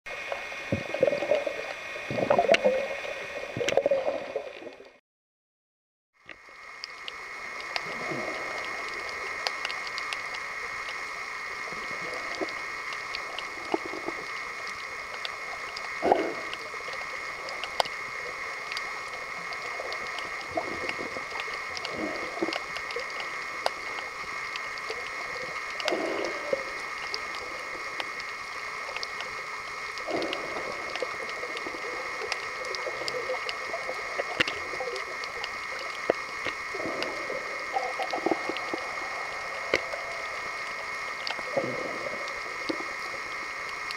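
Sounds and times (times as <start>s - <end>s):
underwater hum: 0.1s - 5.0s, 6.2s - 43.9s
faint clicks: 6.3s - 43.9s.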